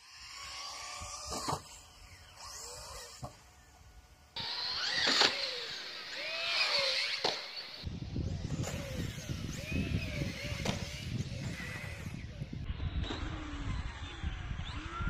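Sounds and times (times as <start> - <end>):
toy truck electric motor whining: 0.0 - 15.0.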